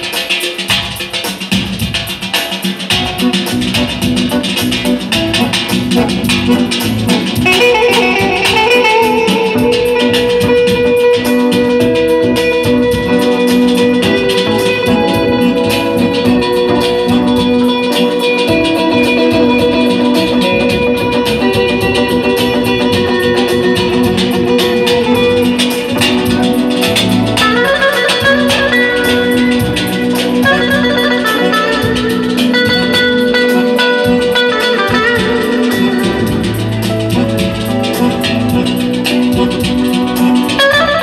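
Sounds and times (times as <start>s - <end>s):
hand drum: 0.0s - 41.0s
electric guitar fast run: 2.9s - 41.0s
accordion: 3.0s - 41.0s
held drone: 3.2s - 41.0s.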